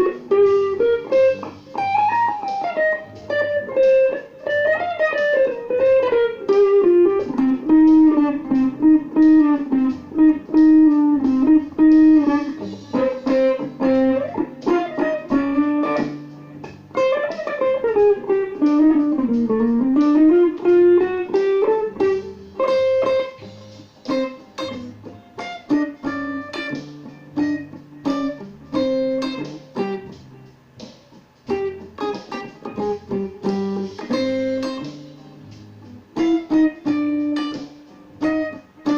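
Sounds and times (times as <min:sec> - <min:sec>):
electric guitar with chorus effect: 0:00.0 - 0:38.9.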